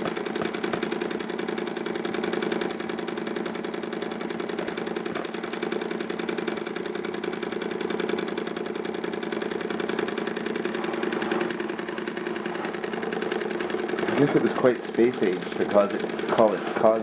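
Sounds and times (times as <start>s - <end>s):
toy steam engine running: 0.0s - 17.0s.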